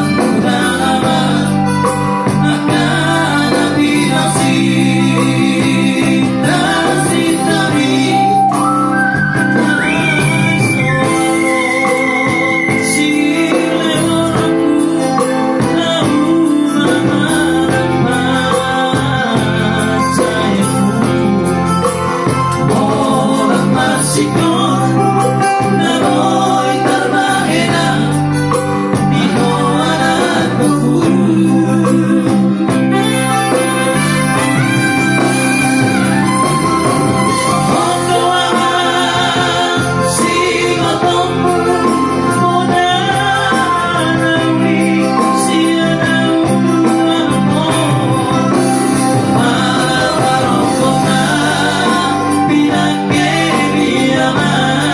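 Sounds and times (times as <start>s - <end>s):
electronic keyboard: 0.0s - 54.9s
man singing with vibrato: 0.0s - 54.9s.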